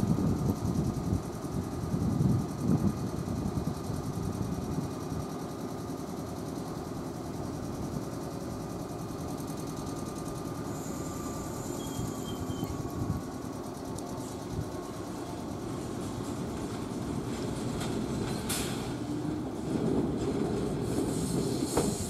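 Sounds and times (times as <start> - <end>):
electric train humming: 0.0 - 22.0.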